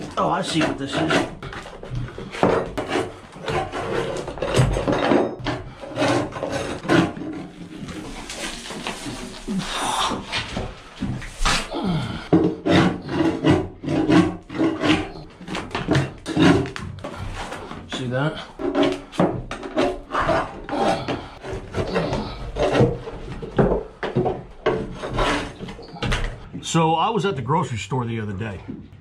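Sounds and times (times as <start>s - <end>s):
wood flooring scraped and torn up: 0.0s - 26.6s.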